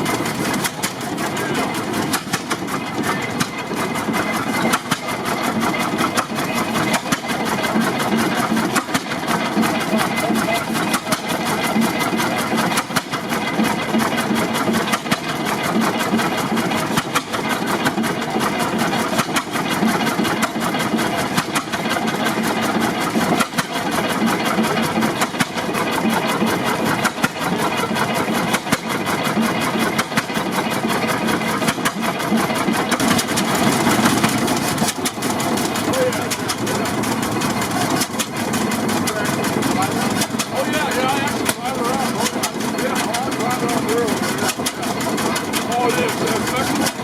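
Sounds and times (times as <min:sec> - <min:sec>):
tractor engine clattering: 0:00.0 - 0:47.0.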